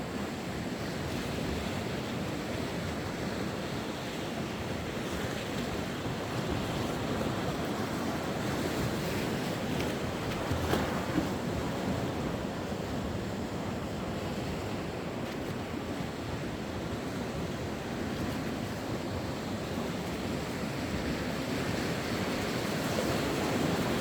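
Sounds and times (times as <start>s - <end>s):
sea waves washing ashore: 0.0s - 24.0s.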